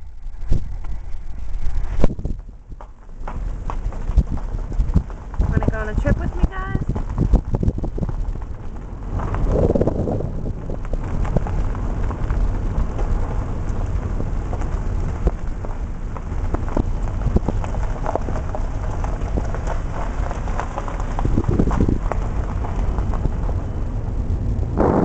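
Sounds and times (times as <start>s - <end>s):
low rumble: 0.0s - 25.0s
rain pattering: 0.0s - 25.0s.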